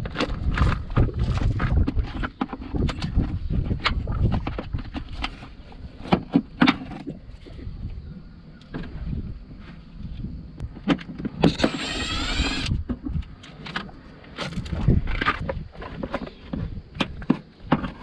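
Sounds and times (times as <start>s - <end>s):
low rumbling handling noise: 0.0s - 18.0s.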